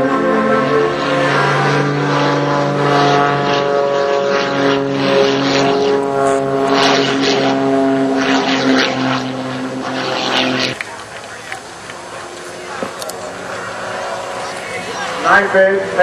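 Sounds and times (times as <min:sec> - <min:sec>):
propeller airplane engine: 0:00.0 - 0:16.0.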